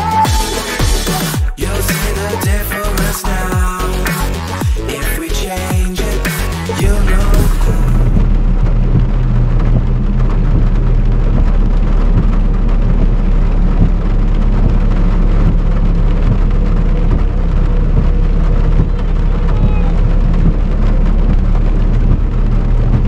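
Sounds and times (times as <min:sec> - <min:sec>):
rain hiss: 0:00.0 - 0:23.0
vehicle engine rumble: 0:00.0 - 0:23.0.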